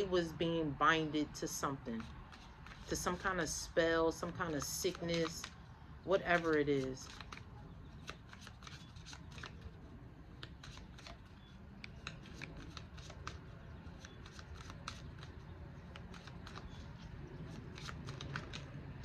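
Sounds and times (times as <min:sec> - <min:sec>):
cards being shuffled: 0:01.9 - 0:19.0.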